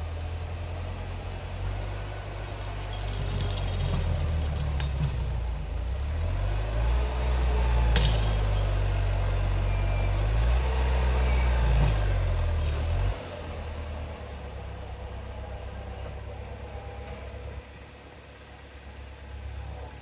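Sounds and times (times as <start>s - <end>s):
diesel engine running hard: 0.0s - 20.0s.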